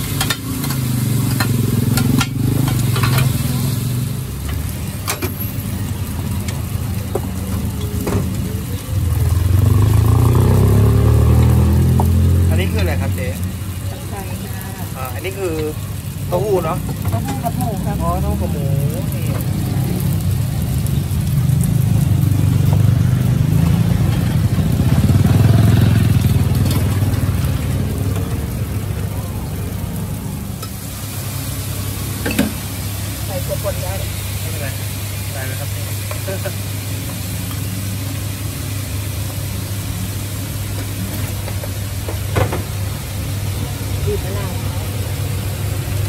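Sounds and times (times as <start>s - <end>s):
eggs sizzling on griddle: 0.0s - 46.0s.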